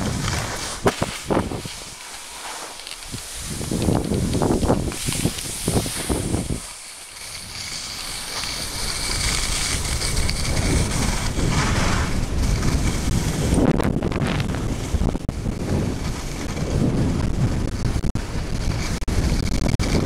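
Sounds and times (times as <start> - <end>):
skis scraping over snow: 0.0 - 20.0
wind buffeting microphone: 0.0 - 20.0.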